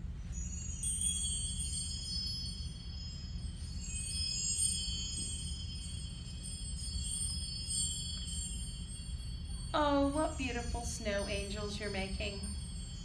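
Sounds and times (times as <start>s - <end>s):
metal chimes ringing: 0.0s - 13.0s.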